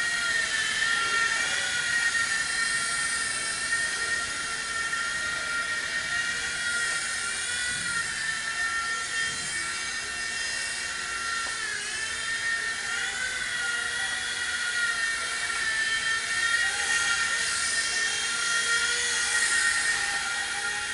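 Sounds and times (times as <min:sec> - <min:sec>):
toy helicopter whining: 0:00.0 - 0:20.9.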